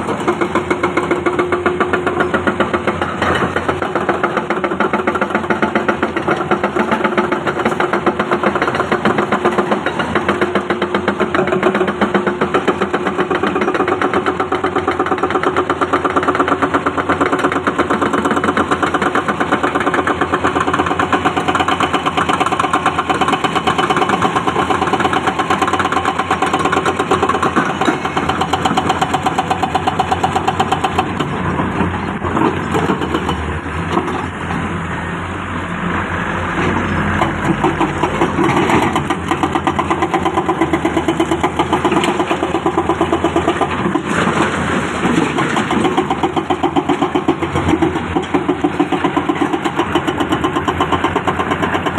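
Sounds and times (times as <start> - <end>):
diesel engine pulsing: 0.0 - 51.9.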